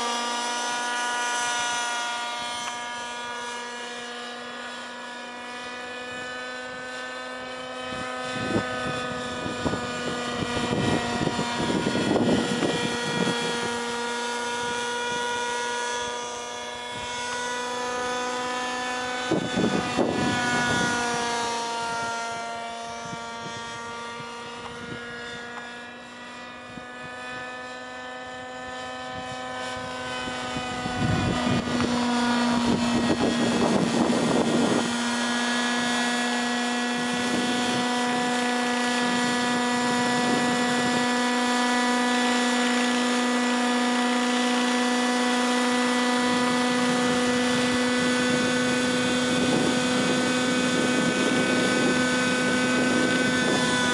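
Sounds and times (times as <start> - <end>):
model helicopter whine: 0.0 - 53.9.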